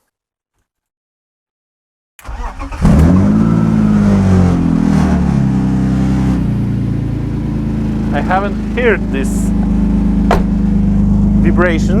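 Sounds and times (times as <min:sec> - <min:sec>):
car engine starting and idling: 0:02.2 - 0:12.0.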